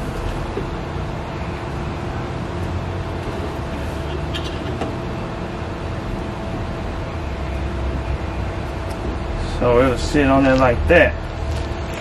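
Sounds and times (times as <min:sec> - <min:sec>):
mechanical hum and rumble: 0:00.0 - 0:12.0.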